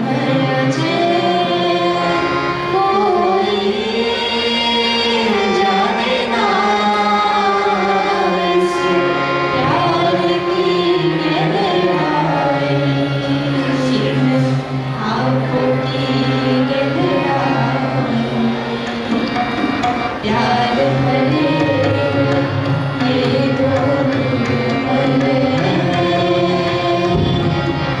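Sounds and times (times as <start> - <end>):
woman and man singing: 0.0 - 18.8, 20.2 - 27.8.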